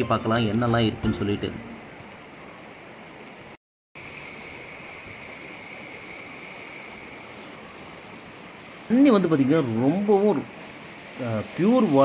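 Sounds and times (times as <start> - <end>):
stream rushing over stones: 1.8 - 12.0.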